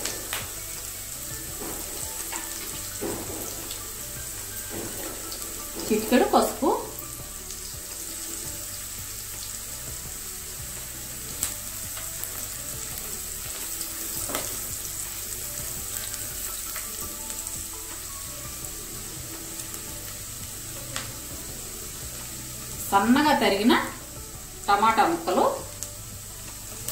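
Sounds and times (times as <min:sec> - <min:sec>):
spatula stirring in wok: 0:00.0 - 0:22.9
food sizzling in hot oil: 0:00.0 - 0:26.9.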